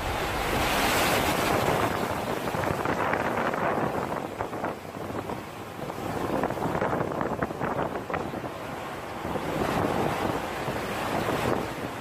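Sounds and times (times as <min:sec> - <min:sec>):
seawater rushing across deck: 0:00.0 - 0:12.0
wind buffeting microphone: 0:00.0 - 0:12.0.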